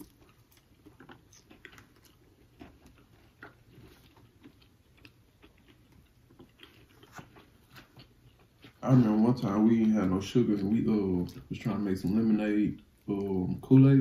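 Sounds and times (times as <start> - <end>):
person chewing: 0.0 - 13.7.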